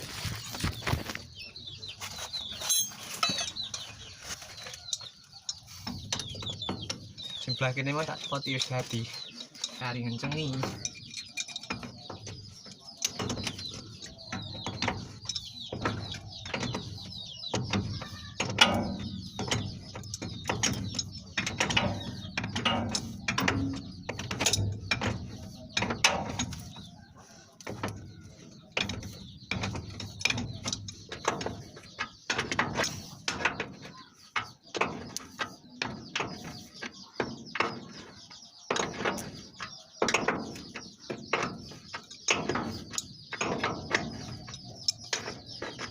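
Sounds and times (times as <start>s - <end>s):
metal knocks: 0.7s - 45.9s.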